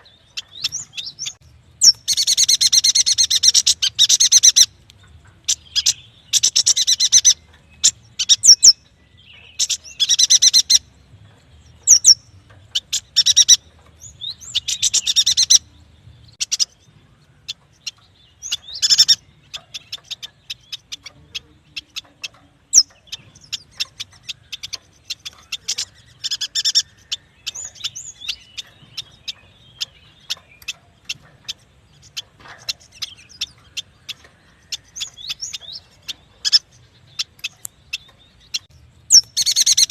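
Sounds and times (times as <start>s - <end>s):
bird chattering trills and chips: 0.0s - 39.9s.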